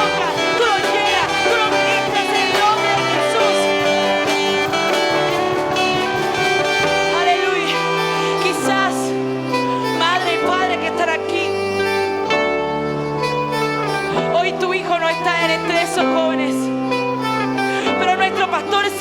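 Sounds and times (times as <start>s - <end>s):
band playing worship music: 0.0s - 19.0s.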